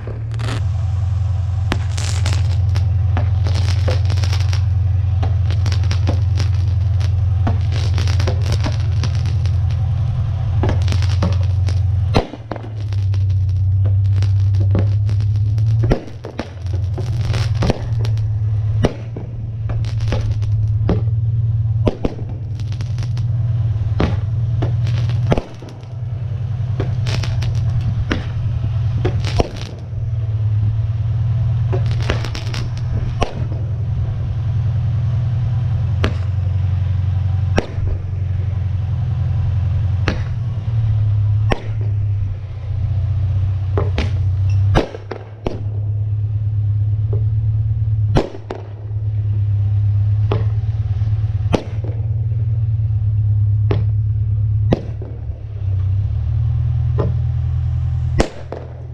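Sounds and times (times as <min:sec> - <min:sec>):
fireworks pops and bangs: 0:00.0 - 0:46.2, 0:46.9 - 0:58.9
steady low hum: 0:00.0 - 0:58.9.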